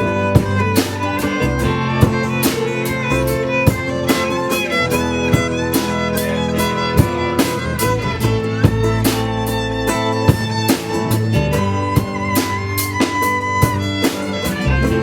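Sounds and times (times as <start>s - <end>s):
drum hits: 0.0s - 15.0s
guitar: 0.0s - 15.0s.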